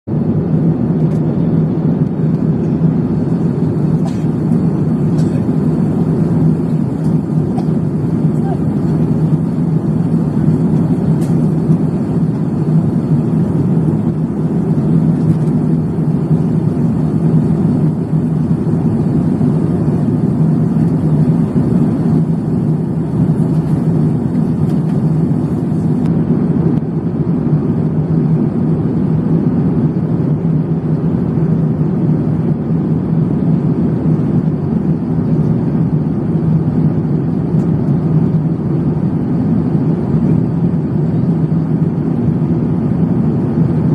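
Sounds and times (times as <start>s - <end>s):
jet cabin engine drone: 0.0s - 43.9s.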